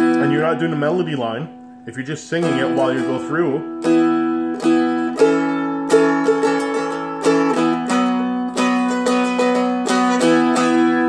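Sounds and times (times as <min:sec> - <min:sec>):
strumstick picked with drone strings: 0:00.0 - 0:11.0.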